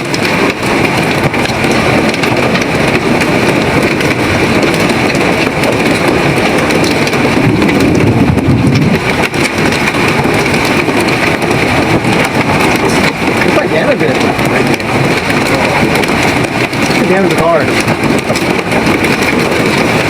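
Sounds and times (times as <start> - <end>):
rain and hail on a car: 0.0 - 20.0.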